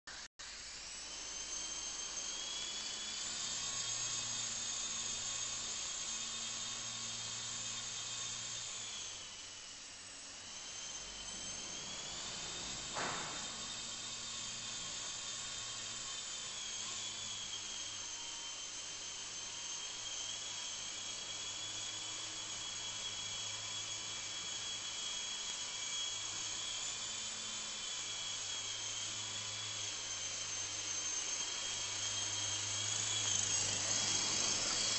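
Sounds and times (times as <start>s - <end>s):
rc helicopter motor whine: 0.5s - 34.9s.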